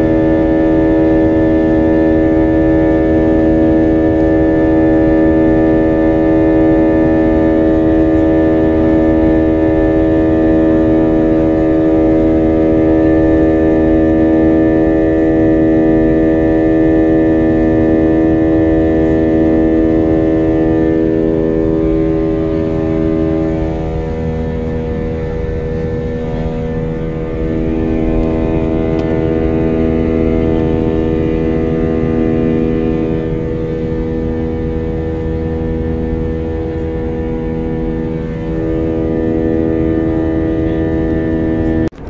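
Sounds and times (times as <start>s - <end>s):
airliner cabin drone: 0.0s - 42.0s
faint low pulsing tone: 0.0s - 42.0s.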